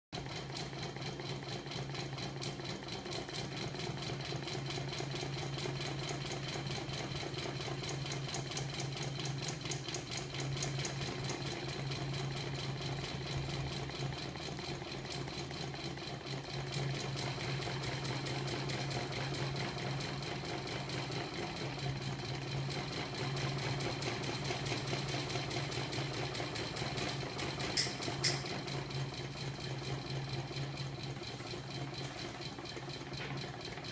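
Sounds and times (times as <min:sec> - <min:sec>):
motor rig humming and ticking: 0:00.2 - 0:33.9.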